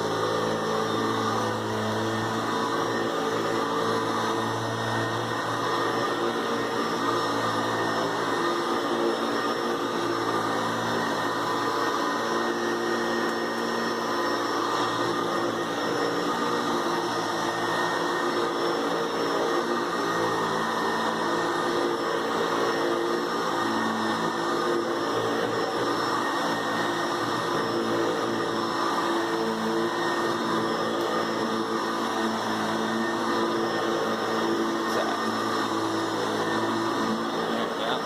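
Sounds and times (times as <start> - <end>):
vacuum cleaner whirring: 0.0 - 38.0.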